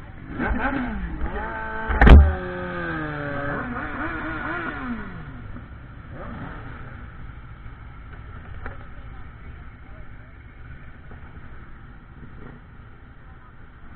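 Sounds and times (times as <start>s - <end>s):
motorcycle engine slowing: 0.0s - 13.9s.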